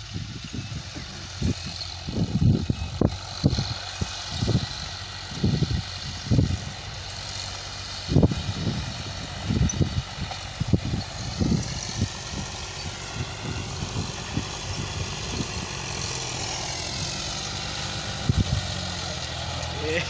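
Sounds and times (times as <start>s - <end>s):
wind buffeting microphone: 0.0s - 19.6s
distant tractor engine: 0.0s - 20.0s.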